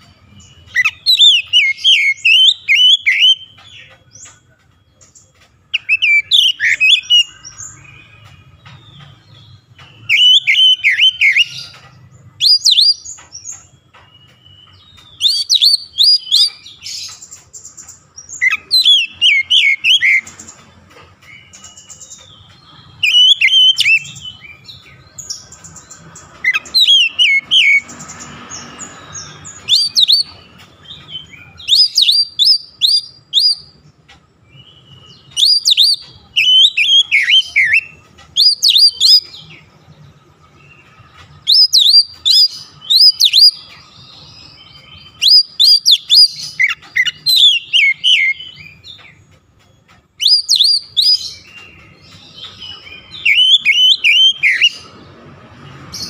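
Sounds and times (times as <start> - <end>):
bird singing whistled notes: 0.0 - 39.8, 40.4 - 55.0.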